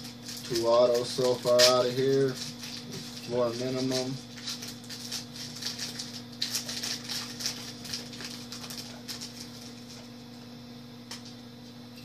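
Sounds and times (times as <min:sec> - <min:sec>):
card pack rustling and clicking: 0:00.0 - 0:10.1
steady low hum: 0:00.0 - 0:12.0.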